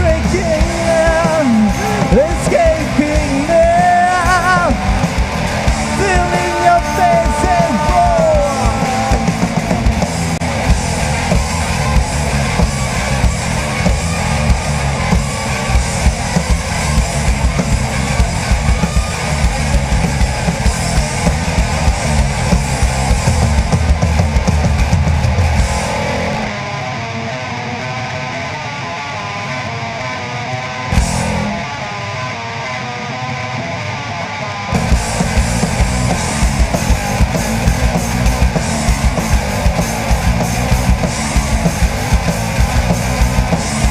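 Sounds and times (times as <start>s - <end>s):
distorted electric guitar: 0.0s - 43.9s
heavy rock band playing: 0.0s - 43.9s.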